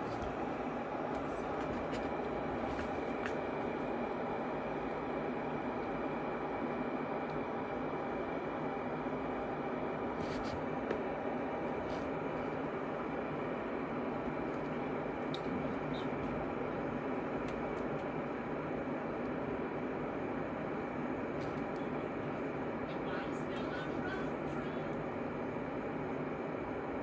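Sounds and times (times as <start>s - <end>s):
electric kettle heating water: 0.0s - 27.0s.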